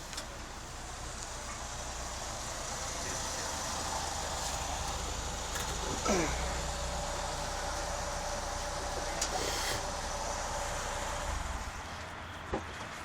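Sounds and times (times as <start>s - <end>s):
motor vehicle hum: 0.0s - 13.0s.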